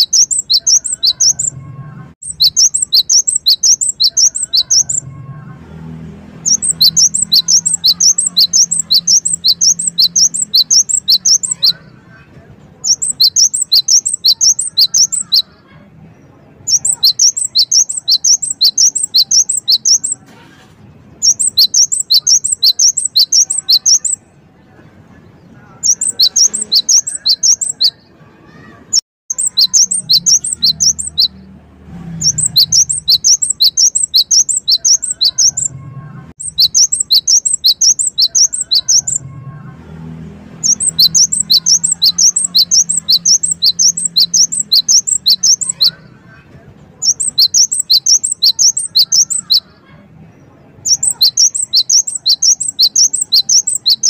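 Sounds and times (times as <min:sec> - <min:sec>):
bird singing sharp notes: 0:00.0 - 0:05.1, 0:05.9 - 0:12.0, 0:12.8 - 0:15.6, 0:16.2 - 0:20.3, 0:21.1 - 0:24.4, 0:25.3 - 0:39.3, 0:40.6 - 0:46.1, 0:47.0 - 0:49.8, 0:50.8 - 0:54.0.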